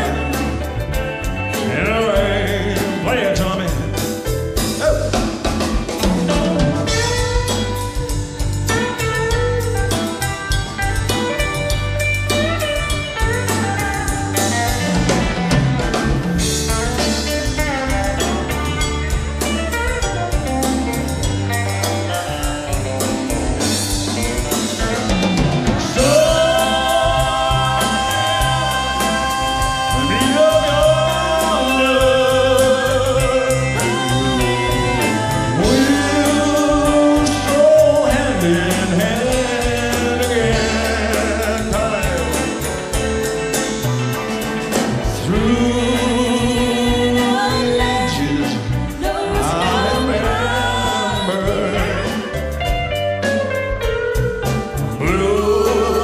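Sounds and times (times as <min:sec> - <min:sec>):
bass: 0:00.0 - 0:56.0
drums: 0:00.0 - 0:56.0.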